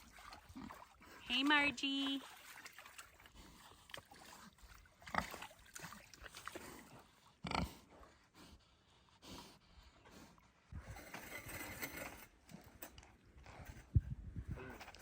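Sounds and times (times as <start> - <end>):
pig grunting and snuffling: 0.0 - 1.3, 2.8 - 15.0.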